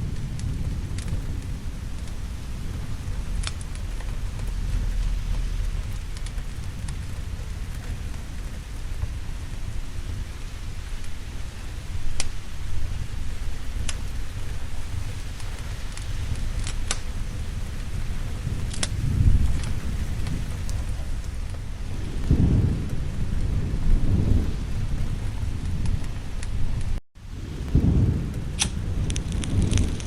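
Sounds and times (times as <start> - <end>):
rolling thunder rumble: 0.0 - 30.0
sharp crackles: 0.0 - 30.0
steady rain: 0.0 - 30.0.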